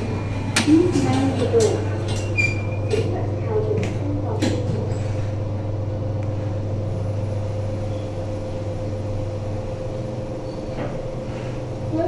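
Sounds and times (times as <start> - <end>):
lift low hum: 0.0 - 12.0.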